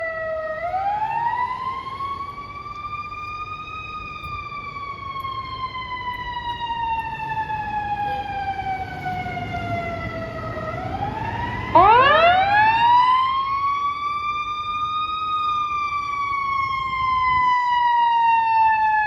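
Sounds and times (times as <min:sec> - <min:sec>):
fire truck siren wailing: 0:00.0 - 0:19.0.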